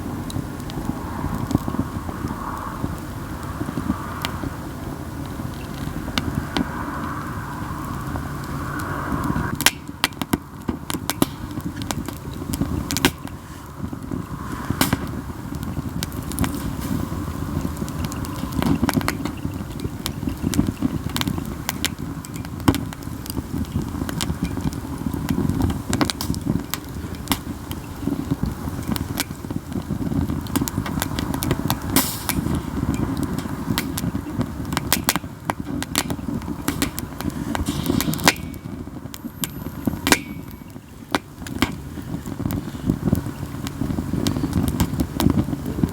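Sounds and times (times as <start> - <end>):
campfire crackling and popping: 0.0 - 45.9
low fire rumble: 0.0 - 45.9.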